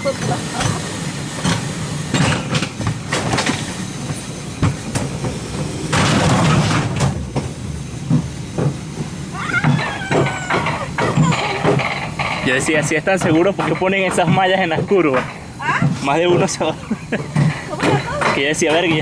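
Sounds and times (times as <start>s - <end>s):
coaster wheels rumbling on track: 0.0s - 19.0s
clacks and knocks: 1.4s - 19.0s.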